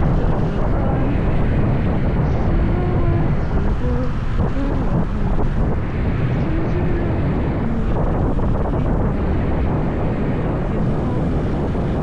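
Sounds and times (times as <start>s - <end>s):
wind rushing on microphone: 0.0s - 12.0s.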